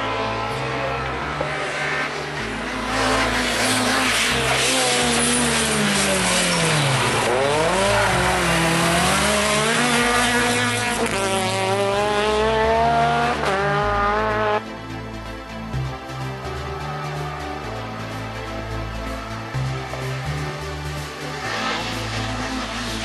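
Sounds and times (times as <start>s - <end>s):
rally car engine accelerating: 0.0s - 14.9s, 16.2s - 23.0s
music with steady bass line: 0.0s - 23.0s.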